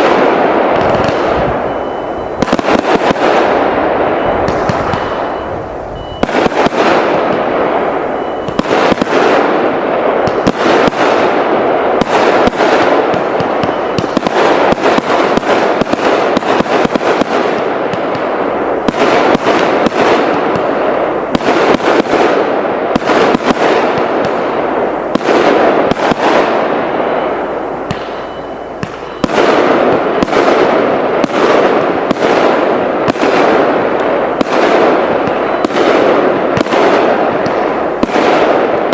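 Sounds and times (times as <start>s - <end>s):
fireworks barrage of bangs: 0.0s - 38.9s
fireworks crackling: 0.0s - 38.9s.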